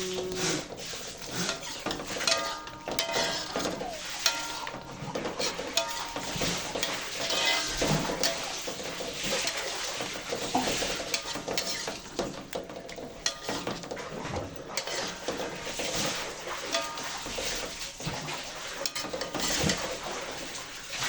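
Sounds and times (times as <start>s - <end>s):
utensil scraping and clinking pan: 0.0s - 21.0s.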